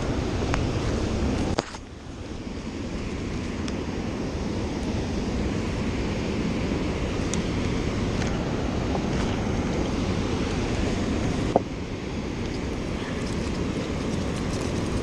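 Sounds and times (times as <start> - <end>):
water churning below spillway: 0.0 - 15.0
wind buffeting microphone: 0.0 - 15.0.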